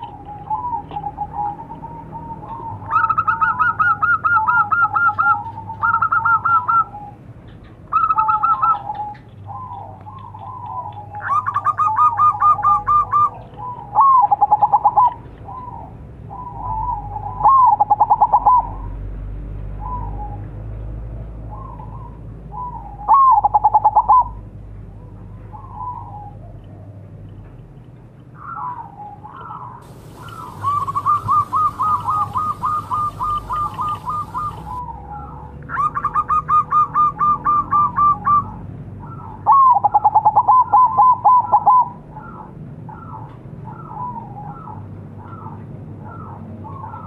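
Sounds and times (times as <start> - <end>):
dove cooing: 0.0 - 7.2, 7.9 - 18.8, 21.5 - 24.4, 28.5 - 47.0.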